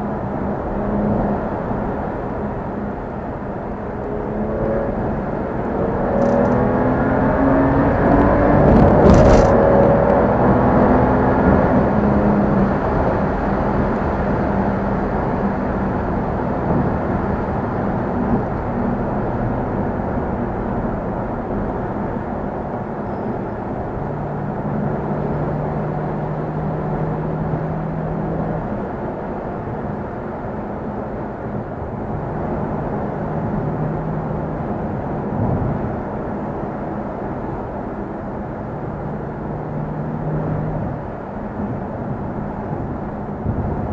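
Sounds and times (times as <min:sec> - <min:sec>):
car engine droning: 0:00.0 - 0:43.9
road noise: 0:00.0 - 0:43.9.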